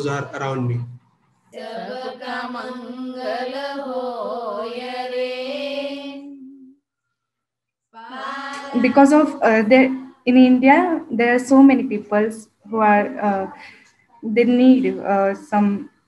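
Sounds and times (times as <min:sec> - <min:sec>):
women chanting a prayer: 0:01.6 - 0:06.6, 0:08.0 - 0:15.9.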